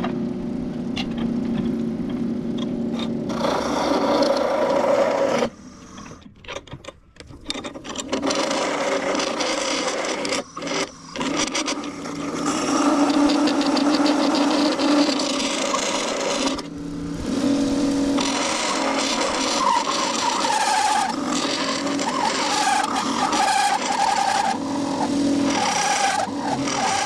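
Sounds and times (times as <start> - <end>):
lathe tool scraping wood: 2.9 - 6.4, 7.3 - 27.0.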